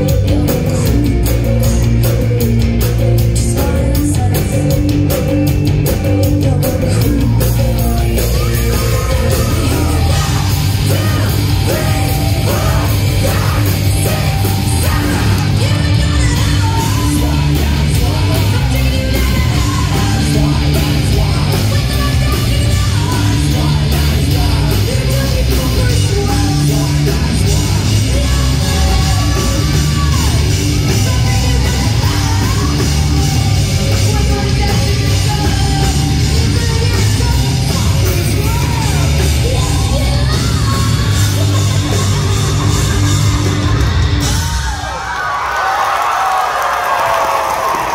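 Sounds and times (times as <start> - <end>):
person singing: 0.0 - 44.8
bass guitar: 0.0 - 45.0
electric guitars: 0.0 - 45.4
drums: 0.0 - 47.9.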